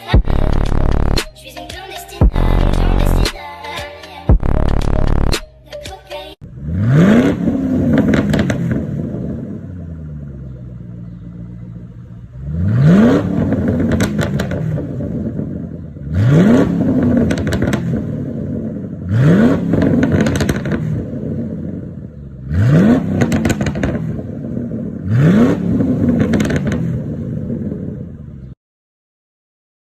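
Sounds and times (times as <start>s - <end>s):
exhaust crackles and pops: 0.0s - 1.3s, 4.3s - 5.5s, 6.9s - 28.5s
car engine revving: 0.1s - 1.2s, 2.2s - 3.3s, 4.4s - 5.4s, 6.4s - 28.5s.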